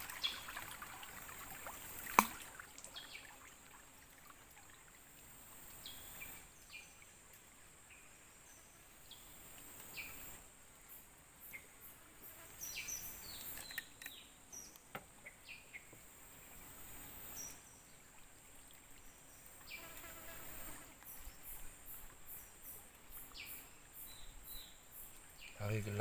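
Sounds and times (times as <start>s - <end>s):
insects buzzing: 0.0s - 14.7s, 18.4s - 26.0s.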